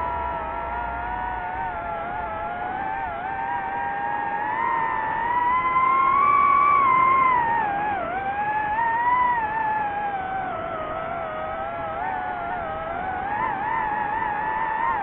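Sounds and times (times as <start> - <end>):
drone propeller motors whining: 0.0 - 15.0.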